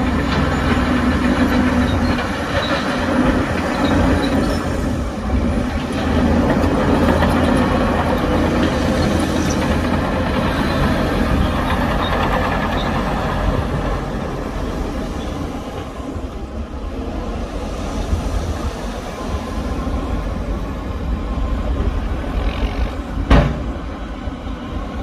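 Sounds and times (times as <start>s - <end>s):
diesel machinery engine drone: 0.0s - 25.0s.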